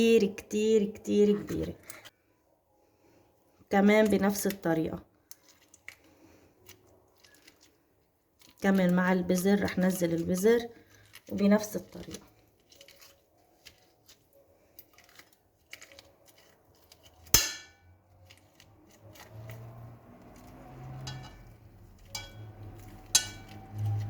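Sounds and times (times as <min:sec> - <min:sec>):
spoon scraping pulp: 0:03.8 - 0:24.0.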